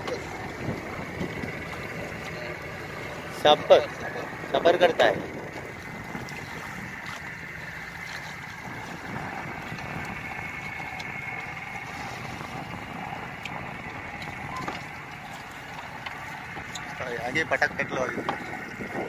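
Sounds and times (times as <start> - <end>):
boat background noise: 0.0 - 19.0.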